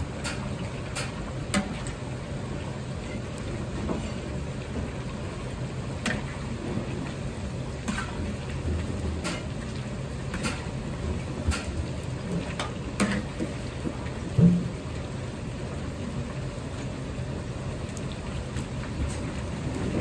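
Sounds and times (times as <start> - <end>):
chicken deep-frying in oil: 0.0 - 20.0.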